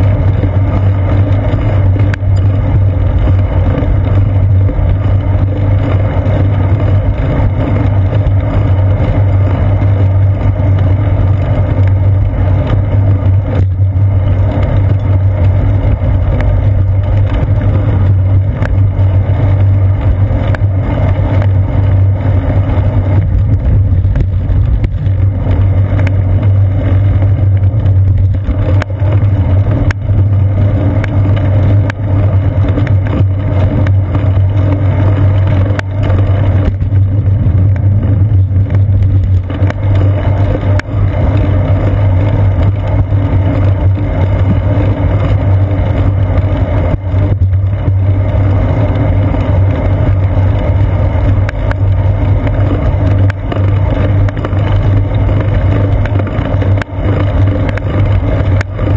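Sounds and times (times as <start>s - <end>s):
bicycle road vibration: 0.0s - 58.9s
wind buffeting: 0.0s - 58.9s.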